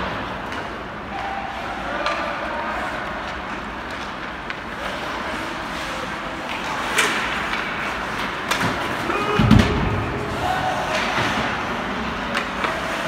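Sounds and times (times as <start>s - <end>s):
hockey sticks and puck clacking: 0.0s - 13.0s.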